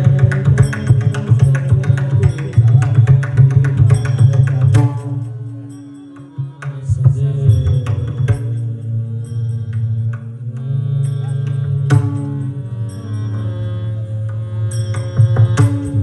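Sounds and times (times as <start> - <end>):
steady held pitched tones: 0.0 - 16.0.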